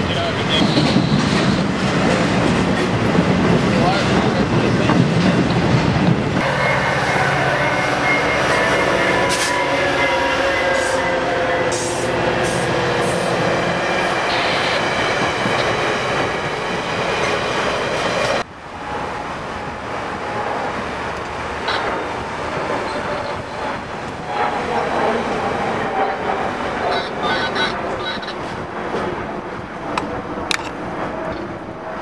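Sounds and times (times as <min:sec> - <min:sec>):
diesel train passing: 0:00.0 - 0:32.0
distant passenger train: 0:00.0 - 0:32.0.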